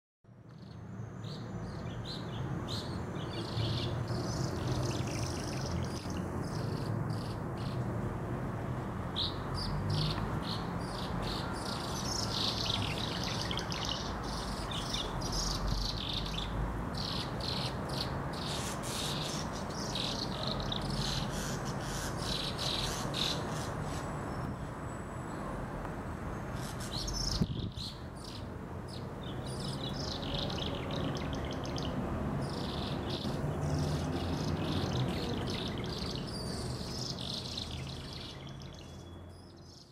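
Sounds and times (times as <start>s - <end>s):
birds chirping: 0.5s - 7.9s, 9.1s - 24.5s, 26.4s - 39.9s.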